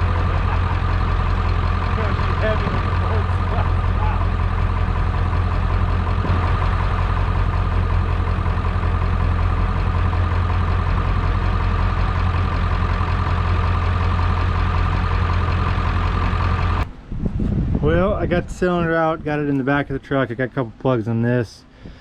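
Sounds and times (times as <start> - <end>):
engine idling with deep hum: 0.0 - 22.0.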